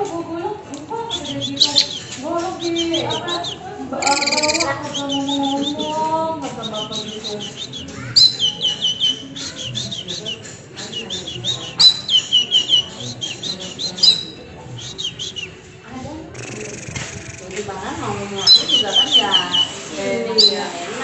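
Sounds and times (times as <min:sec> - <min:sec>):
songbird chirping: 0:01.0 - 0:15.6, 0:18.3 - 0:20.7.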